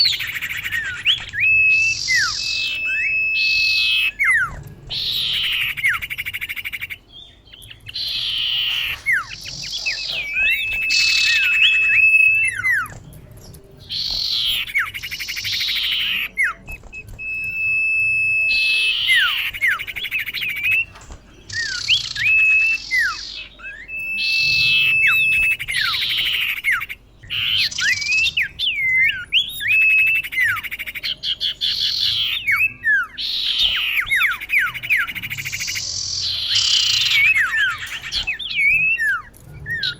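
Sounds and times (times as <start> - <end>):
bird calling buzzy whistled phrases: 0.0 - 7.1, 7.9 - 13.0, 13.9 - 39.9.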